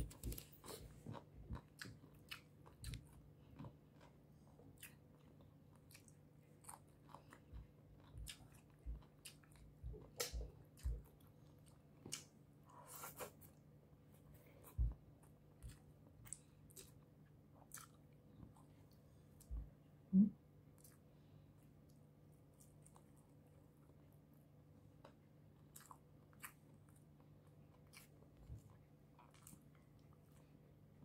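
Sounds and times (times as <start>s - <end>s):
person chewing with crunches: 0.0s - 13.6s, 14.2s - 19.8s, 20.7s - 24.1s, 24.9s - 31.0s.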